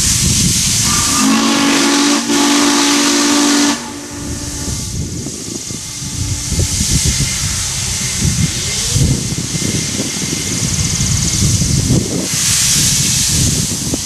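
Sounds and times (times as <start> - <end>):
low uneven train rumble: 0.0 - 14.0
steam hissing: 0.0 - 14.0.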